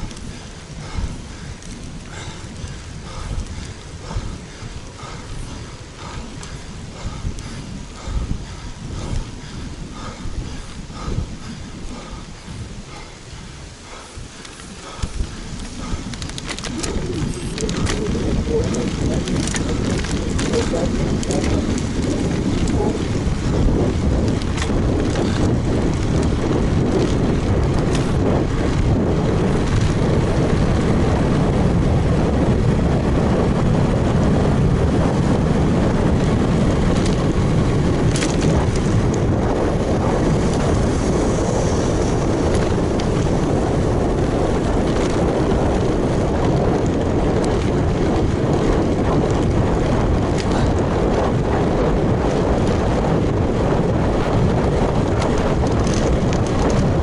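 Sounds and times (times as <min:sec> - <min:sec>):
faint bike ticks: 0:00.0 - 0:57.0
wind rumbling on microphone: 0:00.0 - 0:57.0.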